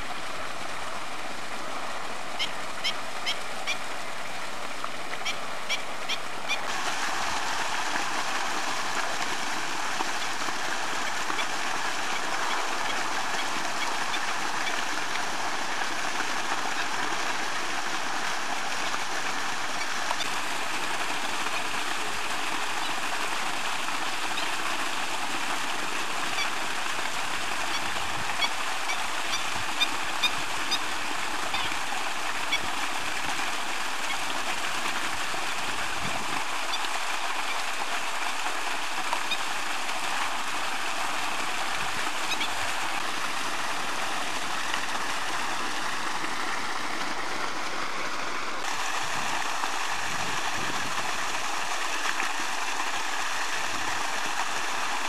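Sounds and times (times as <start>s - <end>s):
waterbirds calling: 0.0s - 55.0s.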